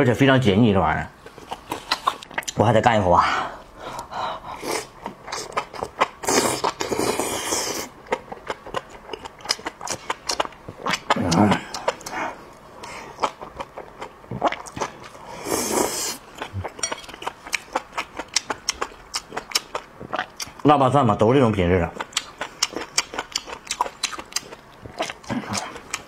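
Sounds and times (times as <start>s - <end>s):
wet chewing: 1.2s - 2.6s, 4.0s - 20.6s, 21.9s - 26.0s.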